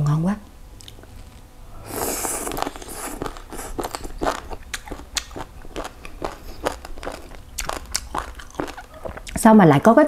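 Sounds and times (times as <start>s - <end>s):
person chewing crunchy food: 0.8s - 9.9s.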